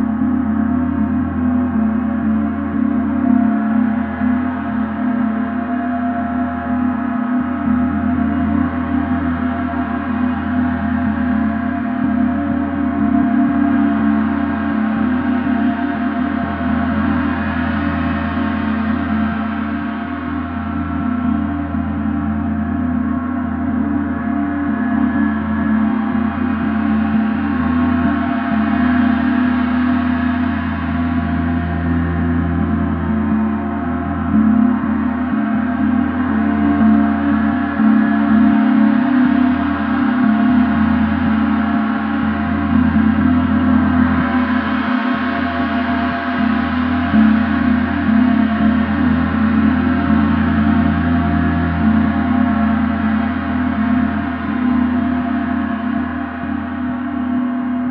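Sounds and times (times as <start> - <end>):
large gong ringing: 0.0 - 57.9.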